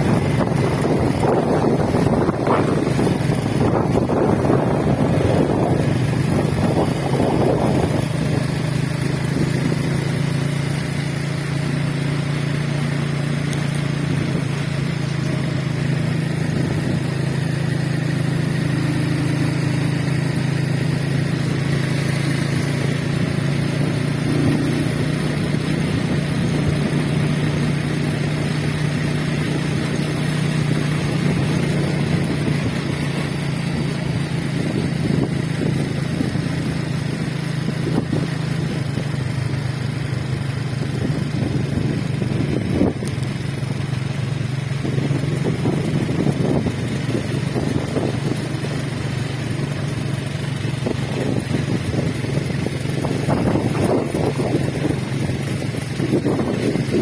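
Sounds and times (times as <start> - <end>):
motor running with low drone: 0.0 - 57.0.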